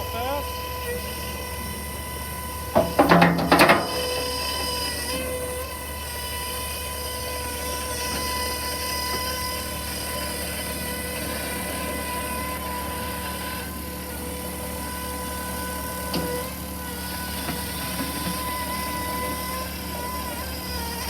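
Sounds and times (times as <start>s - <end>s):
electric skid steer whining: 0.0s - 21.0s.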